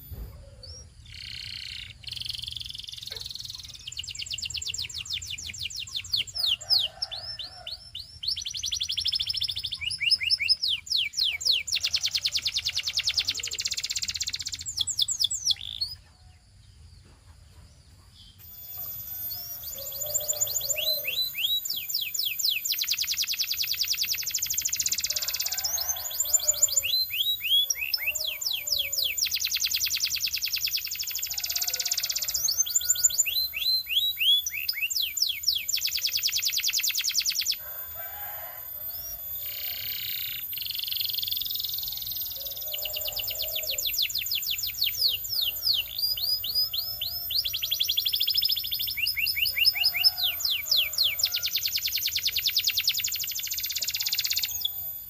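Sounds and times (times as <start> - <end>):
canary singing fast trills: 0.0 - 16.4, 17.8 - 55.0.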